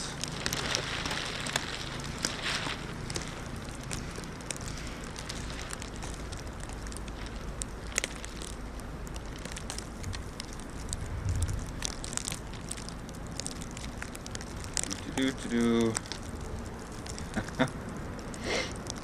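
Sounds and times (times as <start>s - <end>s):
low wind rumble: 0.0s - 19.0s
plastic sheeting crackling: 0.0s - 19.0s.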